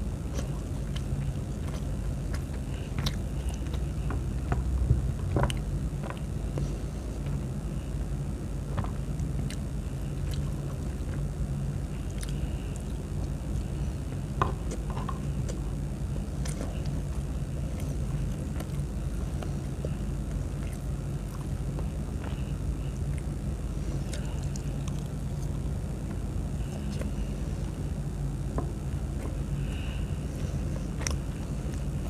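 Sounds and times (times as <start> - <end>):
person chewing food: 0.0 - 32.0
steady low hum: 0.0 - 32.0.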